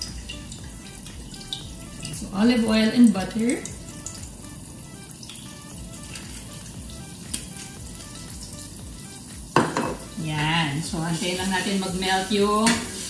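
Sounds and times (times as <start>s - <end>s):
butter sizzling in frying pan: 0.0s - 13.0s
soft background music: 0.0s - 13.0s.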